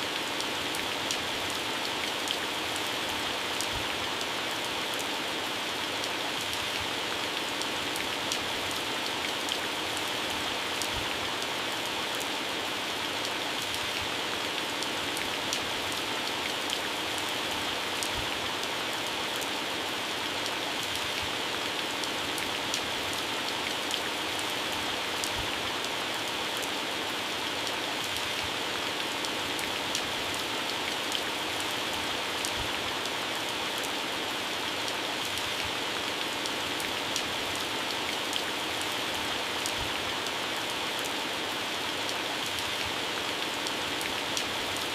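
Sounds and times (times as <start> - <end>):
heavy rain on leaves: 0.0 - 44.9.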